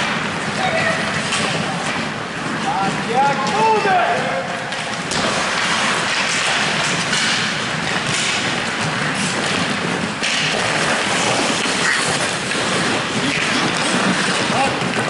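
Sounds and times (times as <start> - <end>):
skates and sticks on ice: 0.0 - 15.0.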